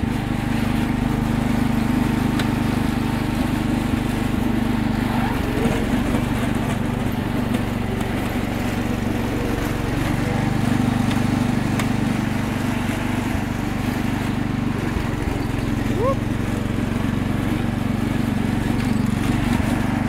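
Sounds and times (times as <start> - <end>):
plow blade pushing wet snow: 0.0 - 20.0
tractor engine running: 0.0 - 20.0.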